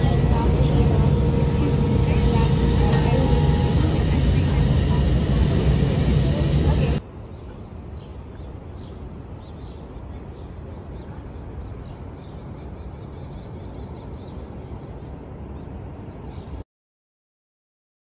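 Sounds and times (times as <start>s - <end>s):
city traffic rumble: 0.0s - 16.6s.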